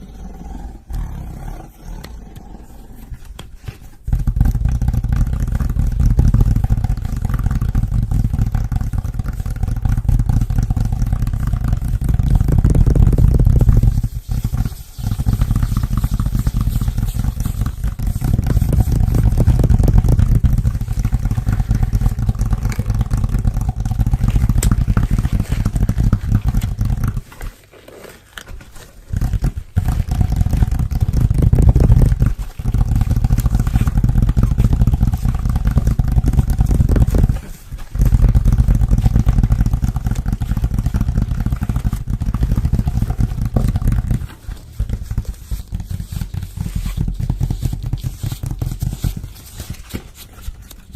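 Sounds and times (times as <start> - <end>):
fingers rubbing microphone: 2.0 - 27.5, 29.1 - 49.9.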